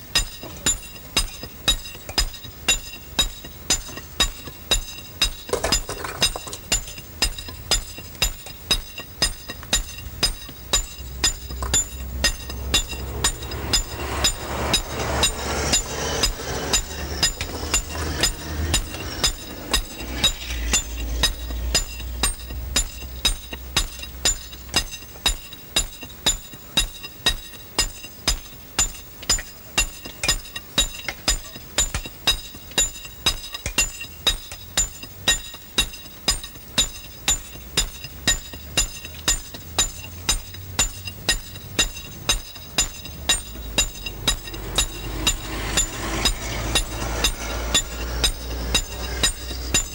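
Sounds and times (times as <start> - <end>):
hammers striking stones: 0.1 - 49.9.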